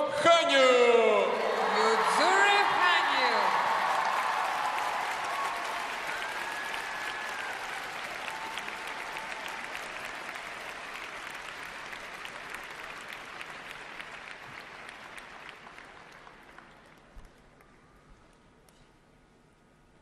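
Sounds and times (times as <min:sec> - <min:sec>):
audience applauding: 0:01.3 - 0:17.7.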